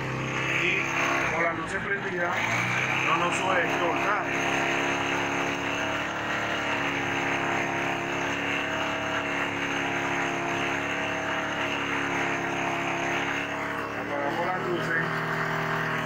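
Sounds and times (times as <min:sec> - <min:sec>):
motorcycle engine at raised revs: 0:00.0 - 0:16.0.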